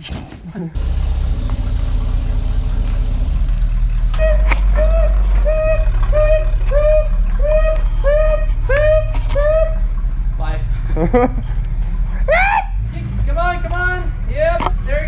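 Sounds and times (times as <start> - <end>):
vehicle engine droning: 0.8 - 15.0.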